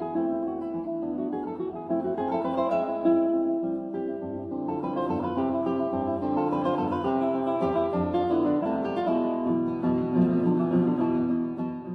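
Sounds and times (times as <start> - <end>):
plucked guitar background music: 0.0 - 11.9.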